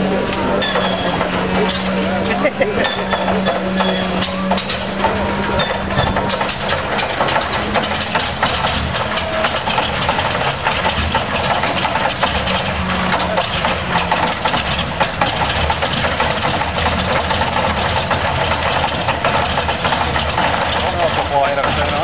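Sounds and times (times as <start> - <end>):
radial aircraft engine running: 0.0 - 22.0.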